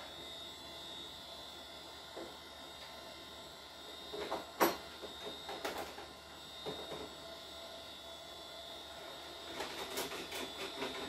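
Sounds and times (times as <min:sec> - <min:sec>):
electrical hum and whine: 0:00.0 - 0:11.0.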